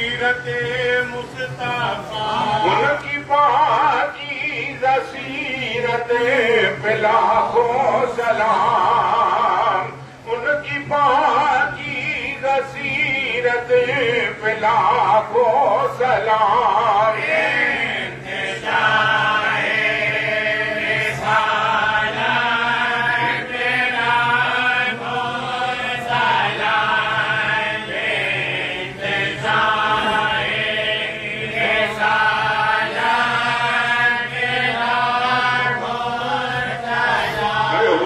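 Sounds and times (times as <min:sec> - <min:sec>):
men chanting together: 0:00.0 - 0:38.0.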